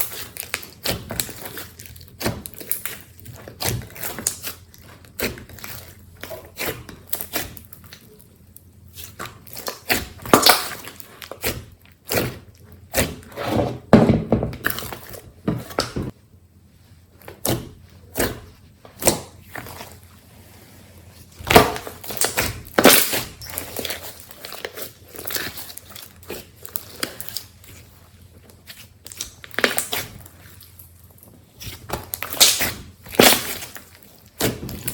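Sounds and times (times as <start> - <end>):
slime squelching by hand: 0.0 - 14.0, 14.6 - 34.9.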